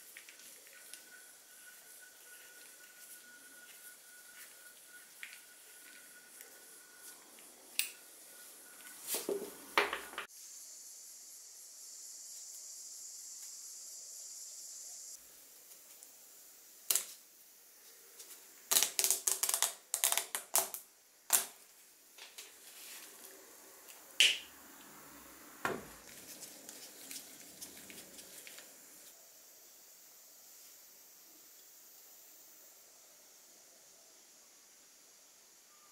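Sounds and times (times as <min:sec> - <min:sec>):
steady high hiss: 0:00.0 - 0:35.9.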